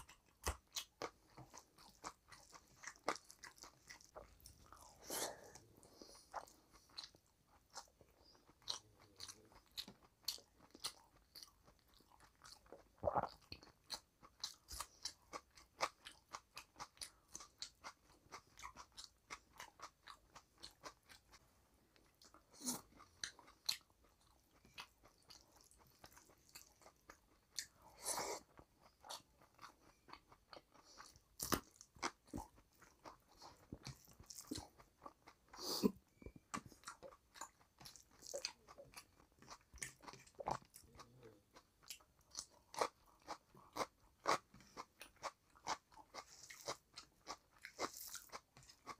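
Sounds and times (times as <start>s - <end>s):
chewing crunches: 0.0s - 21.4s, 22.0s - 48.9s.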